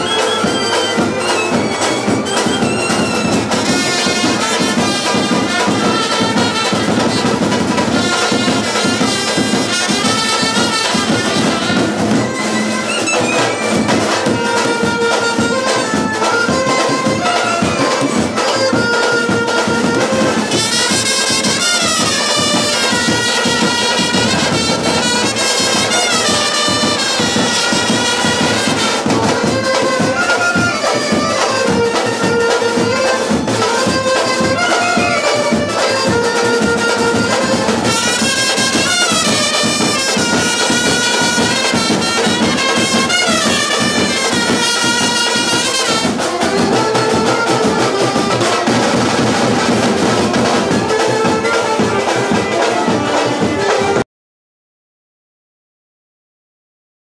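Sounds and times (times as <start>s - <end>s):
steady drum beat: 0.0s - 54.0s
trumpets playing lively melody: 0.0s - 54.0s.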